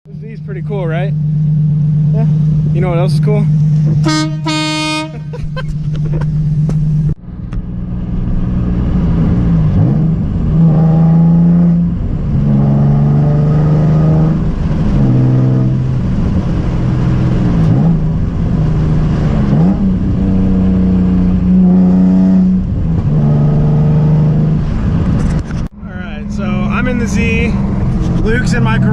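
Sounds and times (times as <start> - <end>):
car engine revving: 0.1 - 28.9.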